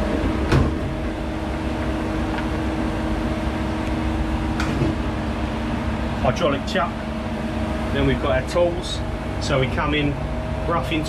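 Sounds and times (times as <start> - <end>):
machine electric hum: 0.0 - 11.0.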